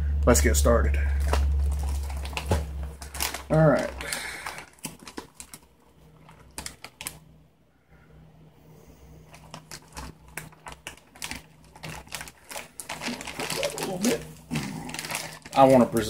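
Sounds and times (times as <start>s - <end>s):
plastic bag crinkling: 1.0s - 7.3s, 9.2s - 16.0s.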